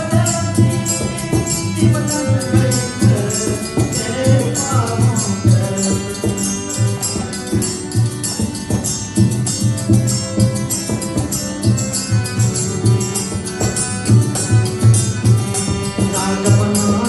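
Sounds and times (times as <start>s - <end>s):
harmonium playing chords: 0.0s - 17.0s
metallic percussion ticking: 0.0s - 17.0s.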